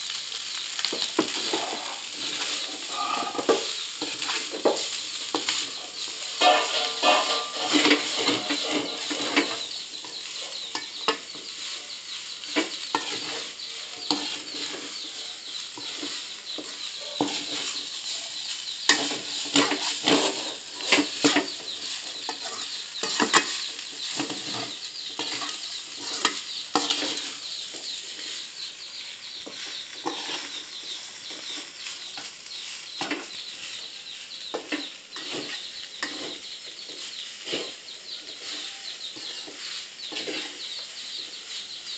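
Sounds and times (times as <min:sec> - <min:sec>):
frying sizzle: 0:00.0 - 0:41.9
spatula scraping and clanking on wok: 0:00.1 - 0:41.9.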